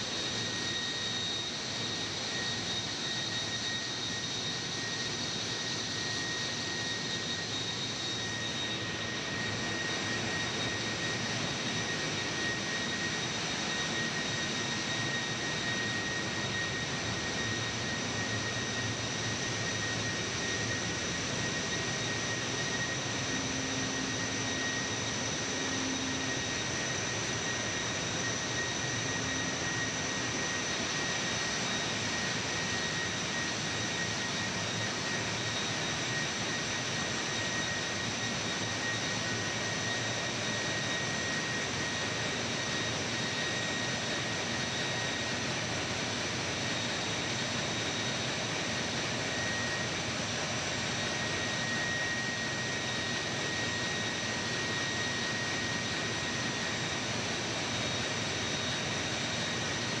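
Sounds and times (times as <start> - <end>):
engine room machinery roar: 0.0 - 60.0
high-pitched whine: 0.0 - 60.0.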